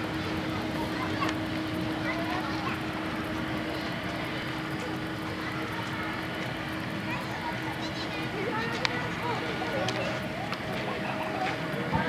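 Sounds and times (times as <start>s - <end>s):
distant jet engines running: 0.0s - 12.0s.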